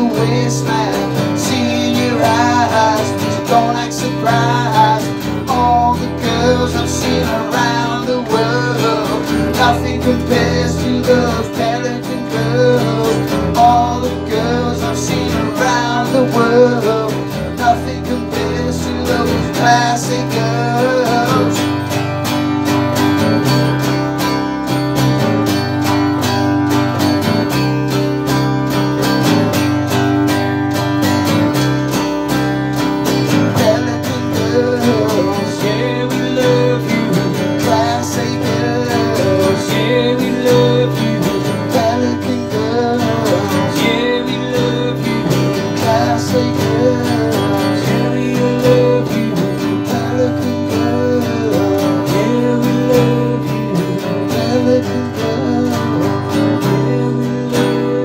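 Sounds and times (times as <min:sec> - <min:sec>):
electric bass: 0:00.0 - 0:58.0
strummed acoustic guitar: 0:00.0 - 0:58.0.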